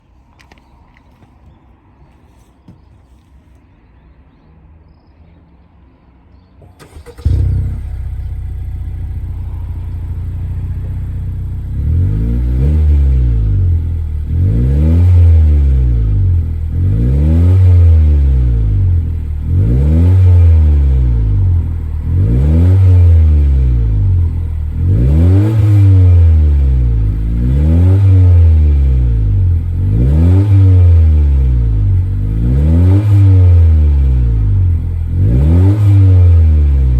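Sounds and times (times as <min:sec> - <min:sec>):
car engine idling and revving: 0:06.6 - 0:36.9.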